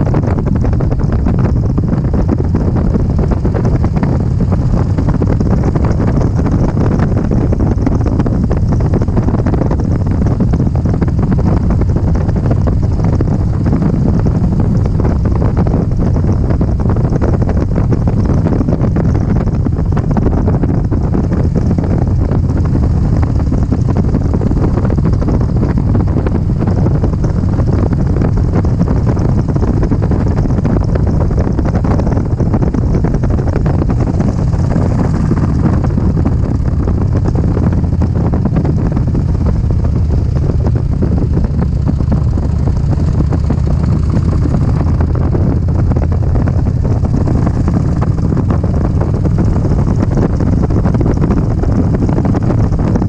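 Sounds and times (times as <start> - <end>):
road noise: 0.0 - 53.0
vehicle engine: 0.0 - 53.0
wind on microphone: 0.0 - 53.0.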